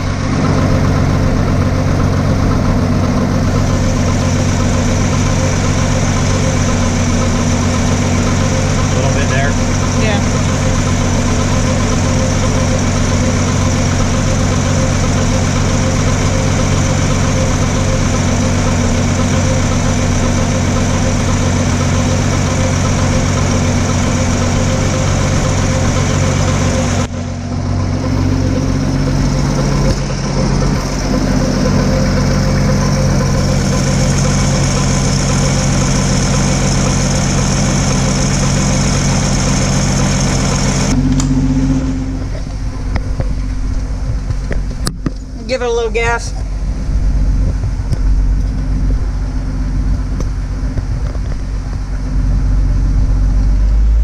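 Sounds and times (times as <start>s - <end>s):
pickup engine idling: 0.0s - 54.0s.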